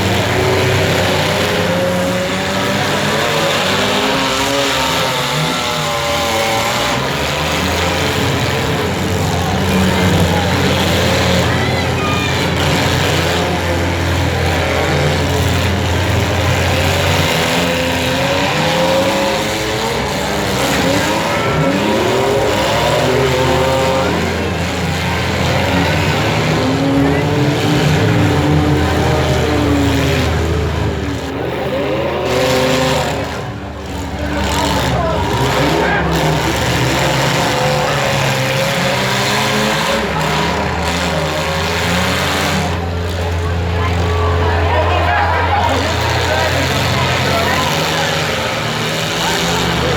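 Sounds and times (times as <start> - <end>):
car engines revving: 0.0 - 49.9
steady noisy din: 0.0 - 49.9.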